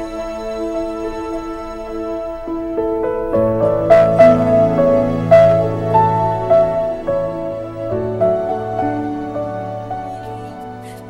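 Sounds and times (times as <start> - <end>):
slow soft instrumental music: 0.0 - 11.0.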